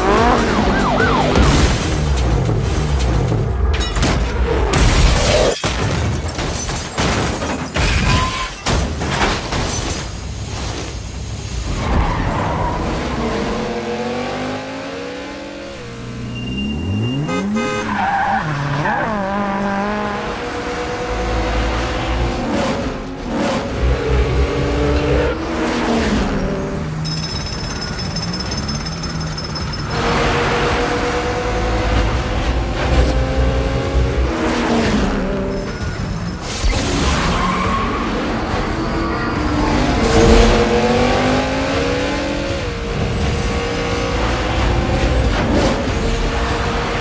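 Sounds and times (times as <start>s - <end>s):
car engines revving: 0.0s - 3.8s, 11.2s - 27.1s, 28.0s - 47.0s.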